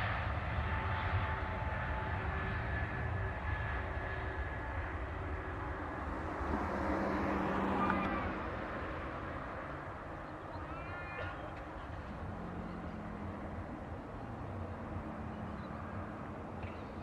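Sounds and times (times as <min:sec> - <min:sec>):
jet engine rumble and hiss: 0:00.0 - 0:17.0.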